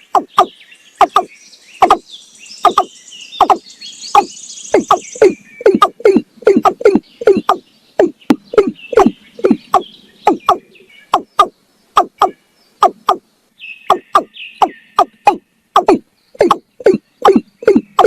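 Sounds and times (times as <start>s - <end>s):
bird calling sharp notes: 0.0s - 18.0s.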